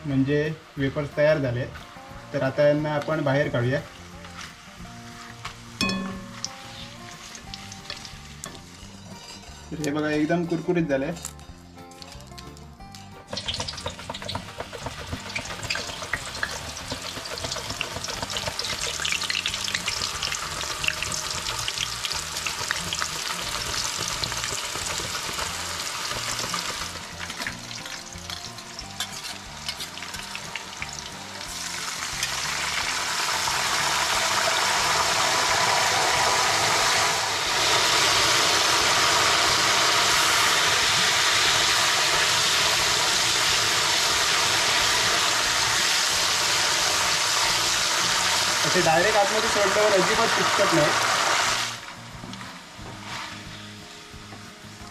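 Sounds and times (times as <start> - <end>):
banana slices frying in oil: 0.0 - 10.2, 13.2 - 52.0.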